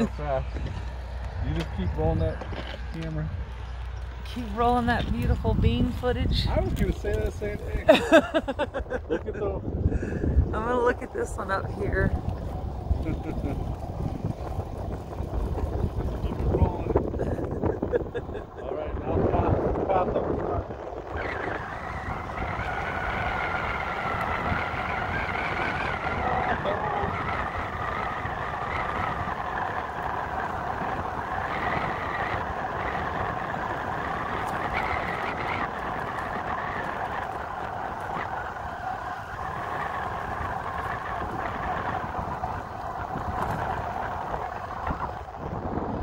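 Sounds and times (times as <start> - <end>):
continuous whine: 0.0 - 46.0
wind rumbling on microphone: 0.0 - 46.0.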